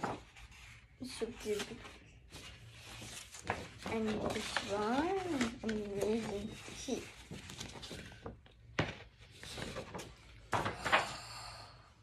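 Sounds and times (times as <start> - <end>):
paper sheets rustling: 0.0 - 11.1.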